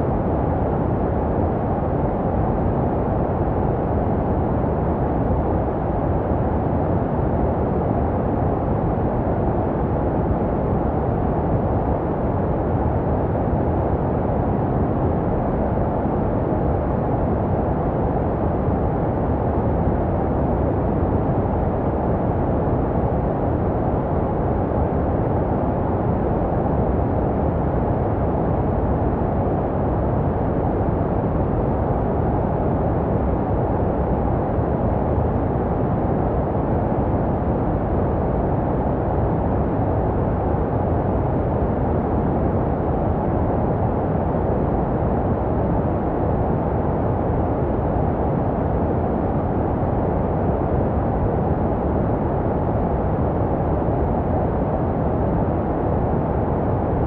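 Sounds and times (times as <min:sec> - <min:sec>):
muffled white noise: 0:00.0 - 0:57.0.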